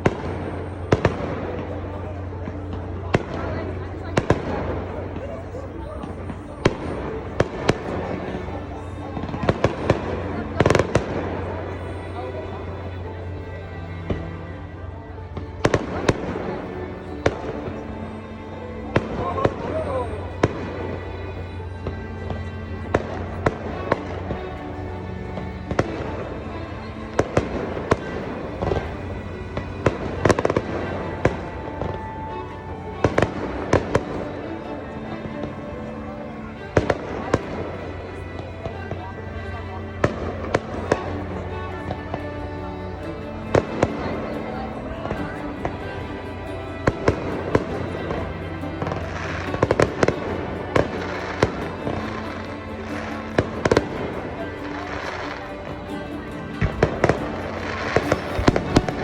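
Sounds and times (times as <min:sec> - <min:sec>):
faint music: 0:00.0 - 0:59.0.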